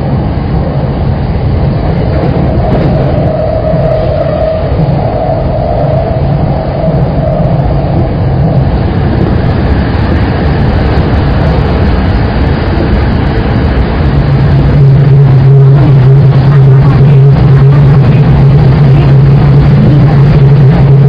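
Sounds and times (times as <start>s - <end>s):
low hum: 0.0s - 21.0s
train wheels rumbling on rail: 0.0s - 21.0s.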